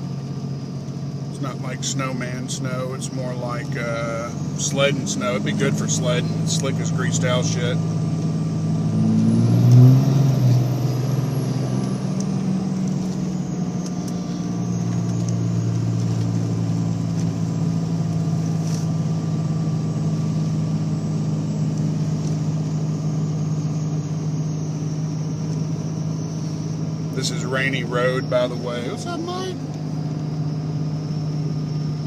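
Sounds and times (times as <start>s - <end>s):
diesel engine driving: 0.0s - 32.0s
engine revving: 1.3s - 32.0s.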